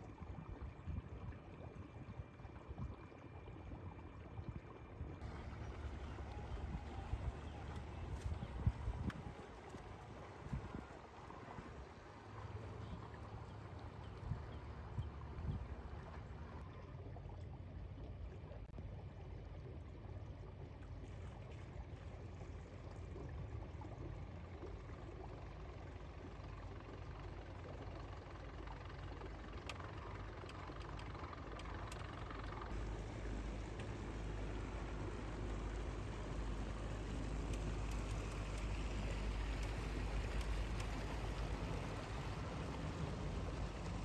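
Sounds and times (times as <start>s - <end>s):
motorboat engine rumble: 0.0s - 44.0s
water washing past hull: 0.0s - 44.0s.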